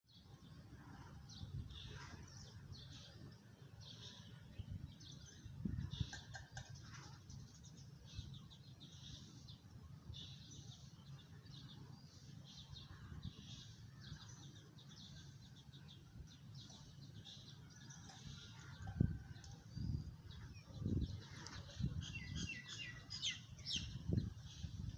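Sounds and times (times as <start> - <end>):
small birds chirping: 0.1 - 24.9.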